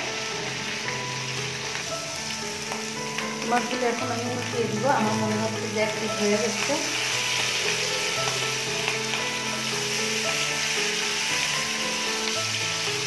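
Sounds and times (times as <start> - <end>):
background music of held notes: 0.0 - 13.0
fish frying in hot oil: 0.0 - 13.0.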